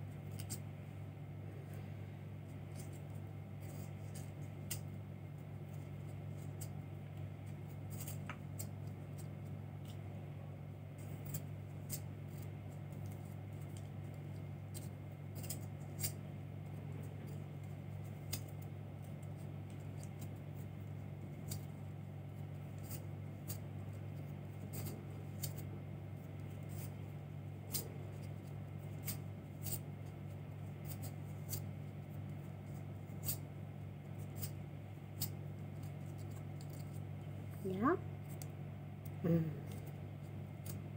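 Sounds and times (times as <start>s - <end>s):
steady low hum: 0.0s - 40.9s
yarn clicking and scratching on hoop: 2.5s - 10.0s, 10.9s - 40.9s.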